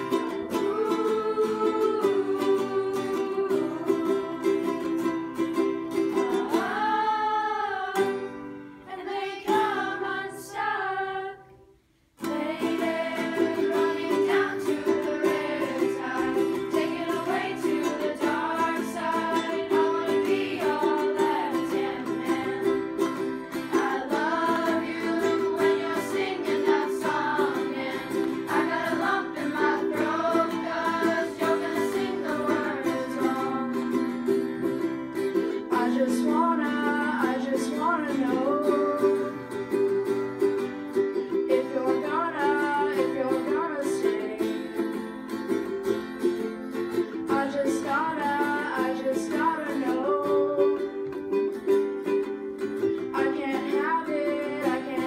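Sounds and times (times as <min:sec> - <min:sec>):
acoustic guitar strumming: 0:00.0 - 0:11.3, 0:12.2 - 0:55.0
children singing: 0:00.0 - 0:11.6, 0:12.2 - 0:39.6, 0:41.4 - 0:45.0, 0:47.2 - 0:51.0, 0:52.8 - 0:55.0
ukulele strumming: 0:00.0 - 0:55.0.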